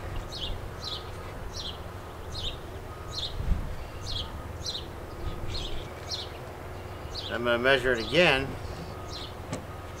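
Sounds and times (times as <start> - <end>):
bird calling: 0.1 - 10.0.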